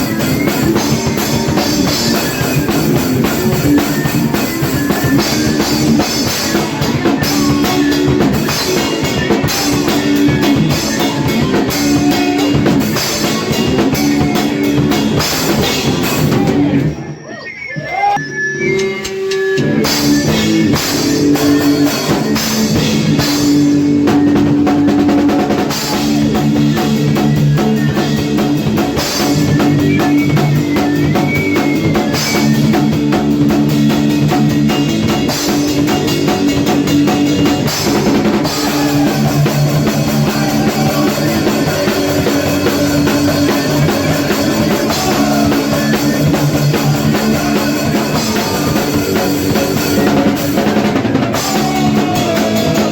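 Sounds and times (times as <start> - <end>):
distorted electric guitar: 0.0 - 52.9
drum kit: 0.0 - 52.9
punk band playing live: 0.0 - 52.9.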